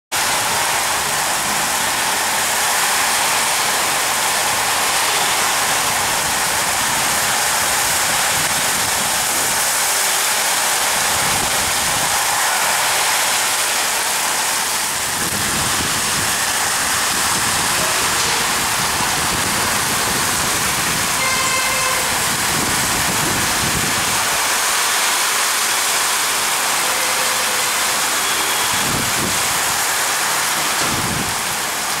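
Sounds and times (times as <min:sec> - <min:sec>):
heavy rain pouring: 0:00.2 - 0:32.0.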